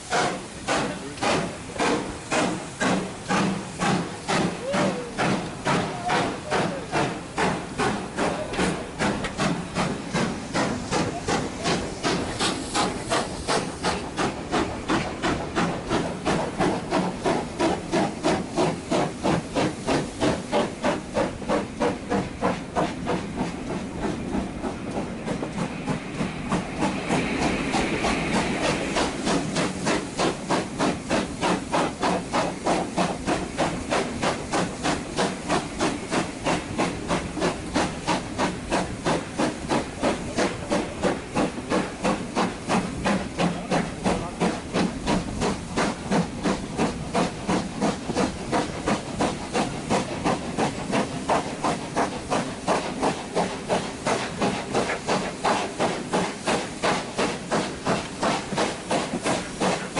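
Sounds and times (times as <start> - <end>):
steam hiss: 0.0 - 59.9
steam locomotive chuffing: 0.0 - 59.9.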